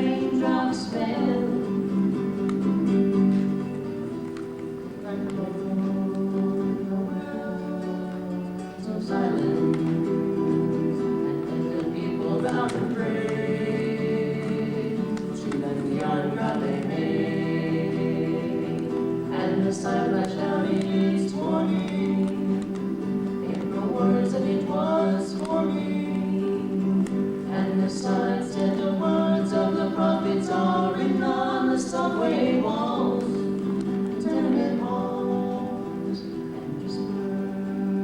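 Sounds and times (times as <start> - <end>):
two voices singing in harmony: 0.0 - 3.9, 4.6 - 38.0
acoustic guitar: 0.0 - 38.0.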